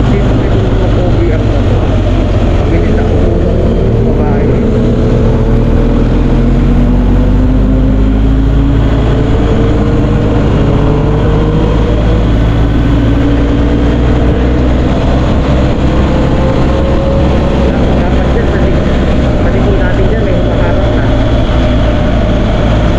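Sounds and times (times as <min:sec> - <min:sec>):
motorcycle engine running: 0:00.0 - 0:22.9
wind and road noise: 0:00.0 - 0:22.9.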